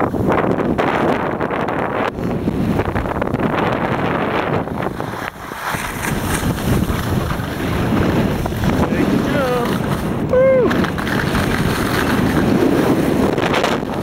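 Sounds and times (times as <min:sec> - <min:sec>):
skis sliding on packed snow: 0:00.0 - 0:14.0
wind buffeting microphone: 0:00.0 - 0:14.0.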